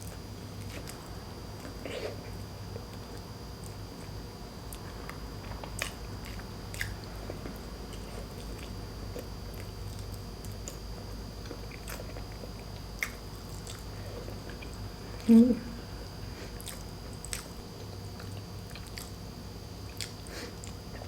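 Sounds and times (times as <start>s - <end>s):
person chewing food: 0.0s - 14.9s, 16.2s - 19.2s, 19.8s - 21.0s
steady low hum: 0.0s - 21.0s.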